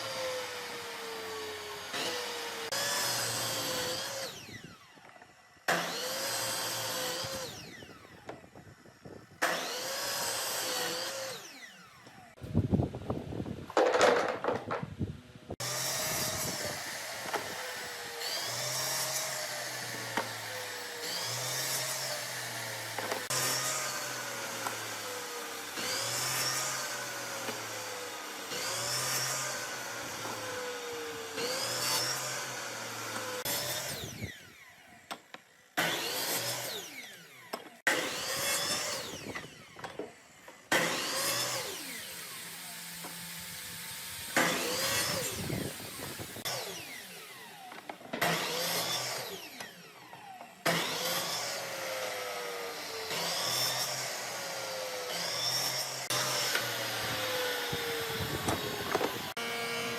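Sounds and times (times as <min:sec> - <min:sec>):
power tool running on wood: 0:00.0 - 0:12.4, 0:15.6 - 0:59.9.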